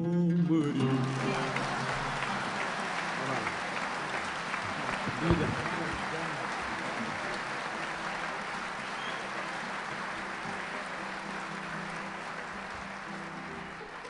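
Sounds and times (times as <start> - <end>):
audience applauding: 0.6 - 14.0.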